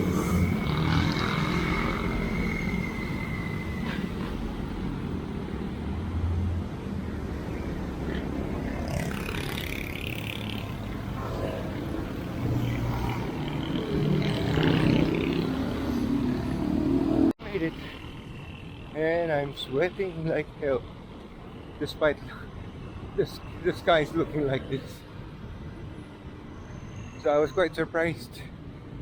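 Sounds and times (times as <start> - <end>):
traffic noise: 0.0 - 29.0.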